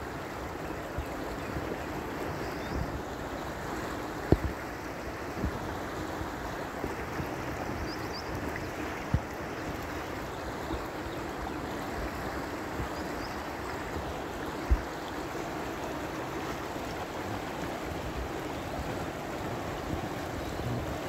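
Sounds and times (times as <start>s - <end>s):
fast-flowing river rushing: 0.0s - 21.0s.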